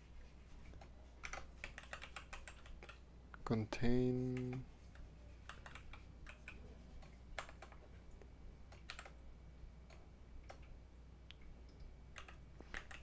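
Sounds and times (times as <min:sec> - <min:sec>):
steady low hum: 0:00.0 - 0:13.0
faint keyboard typing: 0:00.1 - 0:09.2, 0:09.8 - 0:13.0.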